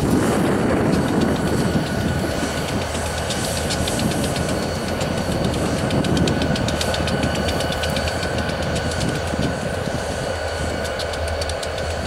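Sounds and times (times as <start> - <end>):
diesel locomotives idling: 0.0 - 12.0.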